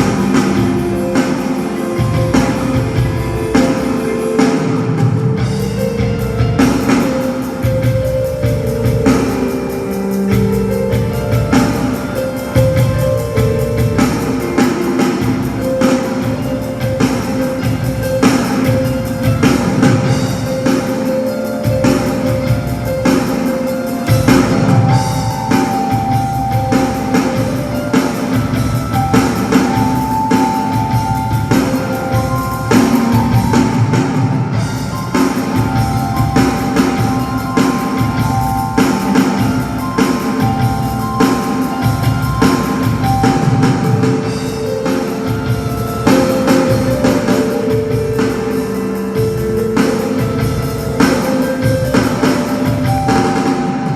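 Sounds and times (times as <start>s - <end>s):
instrumental band music: 0.0s - 53.9s.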